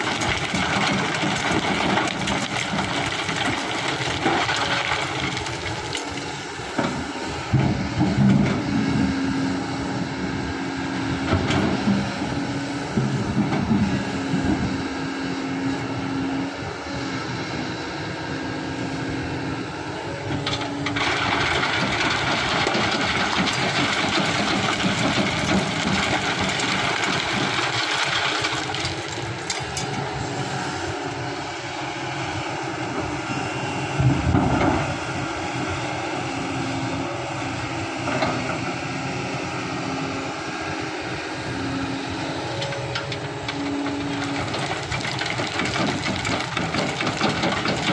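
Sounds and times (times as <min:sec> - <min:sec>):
excavator diesel engine under load: 0:00.0 - 0:47.9.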